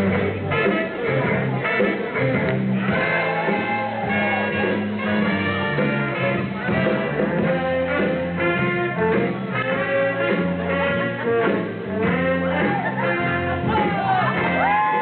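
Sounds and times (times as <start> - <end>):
jazzy brass music: 0.0 - 15.0.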